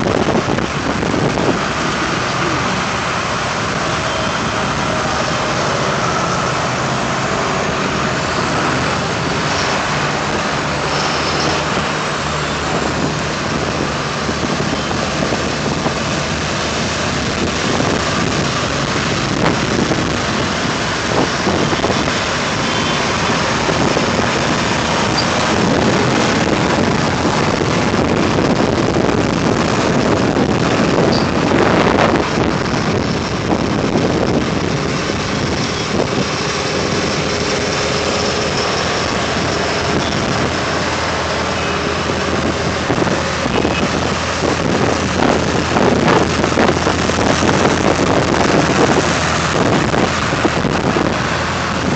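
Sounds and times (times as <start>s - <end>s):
dense rushing noise: 0.0s - 51.9s
tractor engines running: 0.0s - 51.9s.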